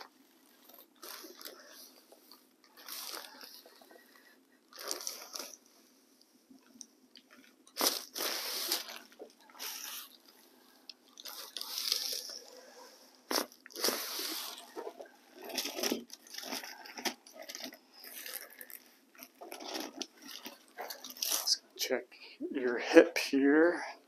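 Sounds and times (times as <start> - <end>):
paper crinkling and rustling: 0.0 - 5.7, 7.3 - 12.6, 13.3 - 21.6.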